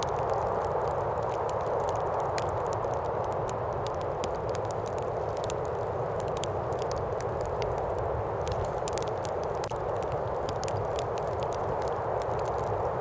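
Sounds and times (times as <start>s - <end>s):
steady wind: 0.0s - 13.0s.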